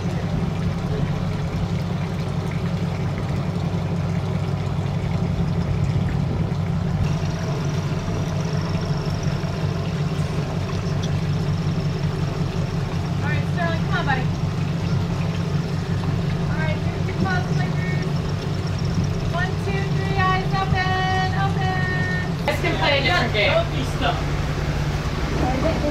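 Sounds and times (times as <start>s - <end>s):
boat engines idling: 0.0s - 25.9s.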